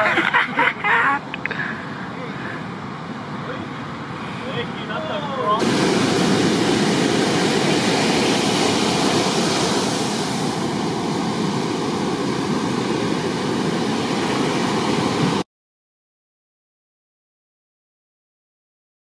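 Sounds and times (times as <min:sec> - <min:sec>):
ocean waves breaking: 0:00.0 - 0:15.4.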